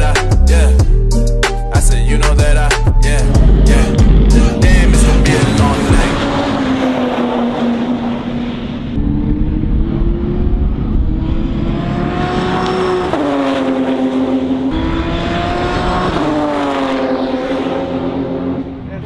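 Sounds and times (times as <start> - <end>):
race car engine accelerating: 2.1 - 19.0.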